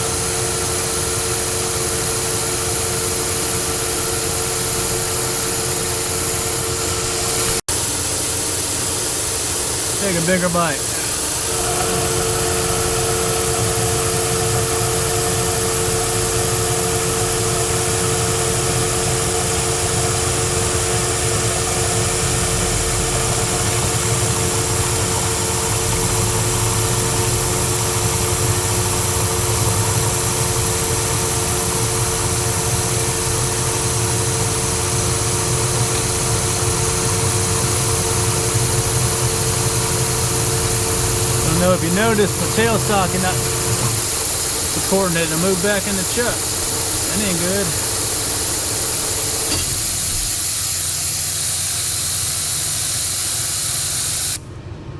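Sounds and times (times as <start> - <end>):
lathe running with whine: 0.0 - 53.7.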